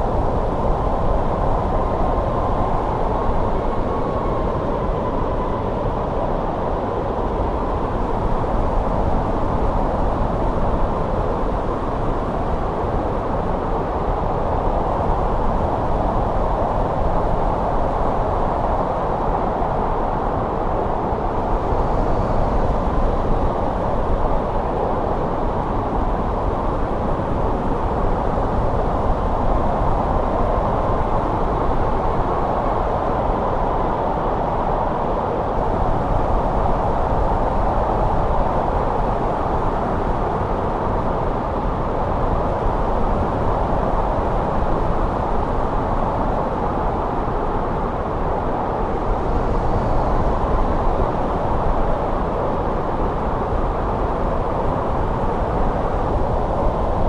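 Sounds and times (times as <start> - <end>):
wind blowing: 0.0 - 57.0.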